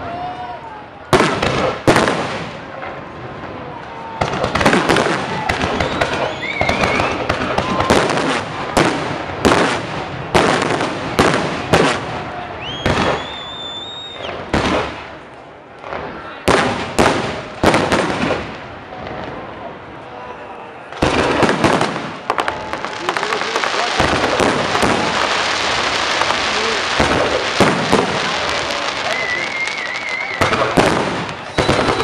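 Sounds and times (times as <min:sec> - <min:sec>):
fireworks crackling: 0:01.0 - 0:32.0
fireworks bursting with bangs: 0:01.1 - 0:19.6, 0:20.9 - 0:32.0.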